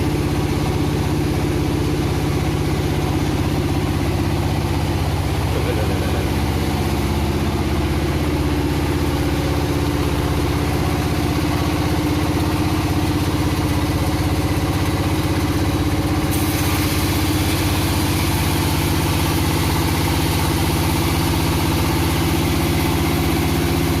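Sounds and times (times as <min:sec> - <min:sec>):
engine-driven saw running: 0:00.0 - 0:24.0.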